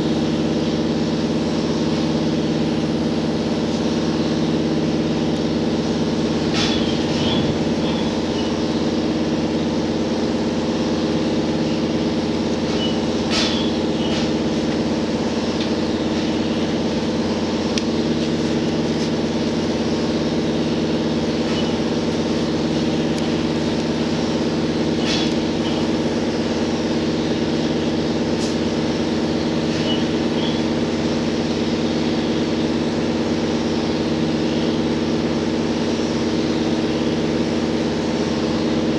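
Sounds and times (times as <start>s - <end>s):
railcar engine drone: 0.0s - 38.9s.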